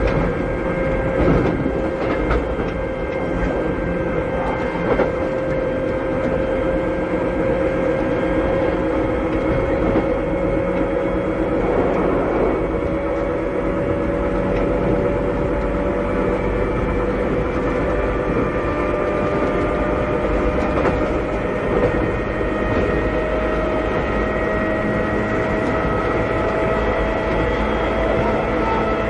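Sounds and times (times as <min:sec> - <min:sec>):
rail joint clack: 0:00.0 - 0:29.0
traction motor whine: 0:00.0 - 0:29.0
wheels rumbling on rails: 0:00.0 - 0:29.0.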